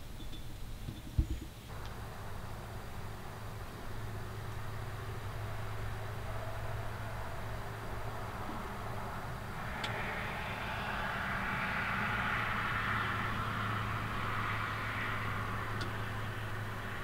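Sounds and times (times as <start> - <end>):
low steady hum: 0.0 - 17.0
distant vehicle passing: 1.7 - 17.0.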